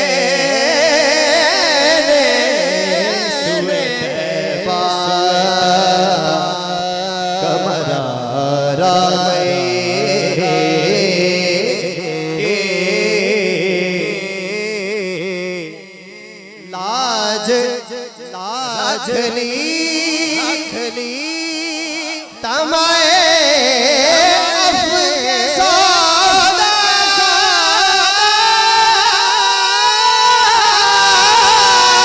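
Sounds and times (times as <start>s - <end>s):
men singing through microphone: 0.0s - 15.7s, 16.7s - 32.0s.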